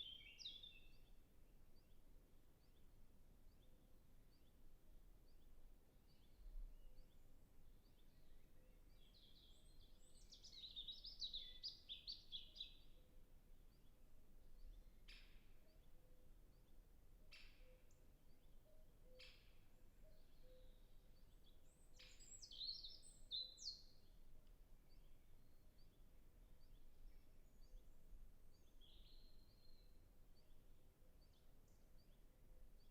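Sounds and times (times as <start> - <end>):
robin singing: 0.0 - 13.1, 13.7 - 24.2, 24.9 - 32.9.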